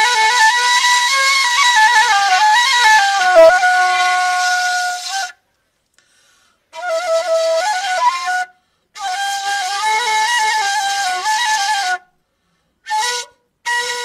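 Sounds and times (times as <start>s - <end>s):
flute-like melody: 0.0s - 5.4s, 6.7s - 12.1s, 12.9s - 14.0s.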